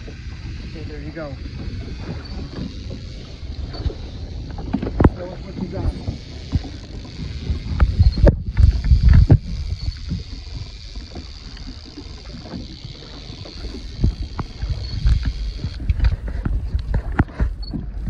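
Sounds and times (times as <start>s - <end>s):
boat engine rumble: 0.0s - 18.0s
water slapping against hull: 0.0s - 18.0s.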